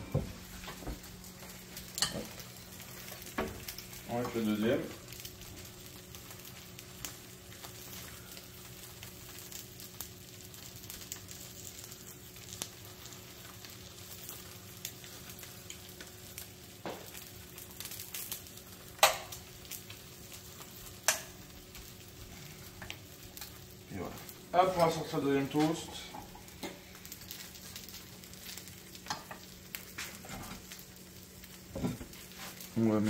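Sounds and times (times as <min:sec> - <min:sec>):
eggs sizzling in fat: 0:00.0 - 0:33.0.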